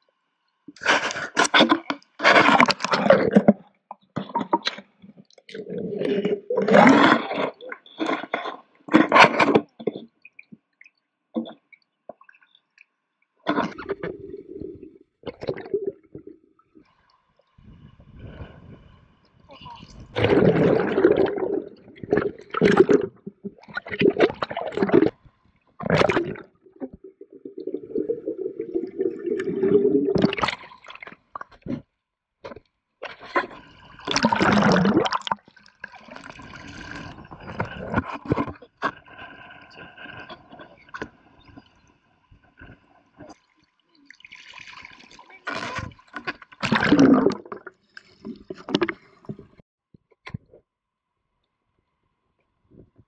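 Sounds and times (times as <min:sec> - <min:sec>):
water sloshing and gurgling: 0:00.7 - 0:49.6.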